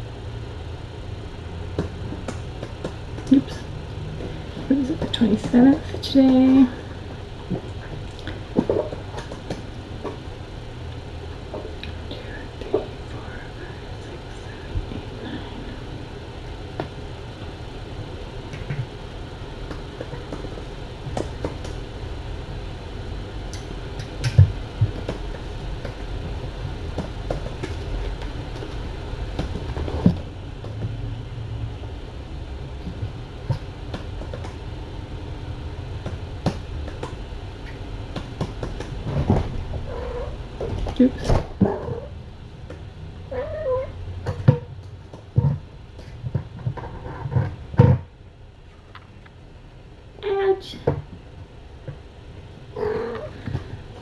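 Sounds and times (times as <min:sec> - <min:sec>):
low room rumble: 0:00.0 - 0:54.0.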